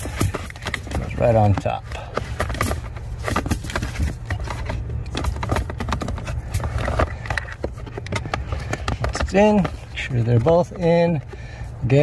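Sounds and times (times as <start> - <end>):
plastic filter scraping and clicking: 0.0 - 11.6.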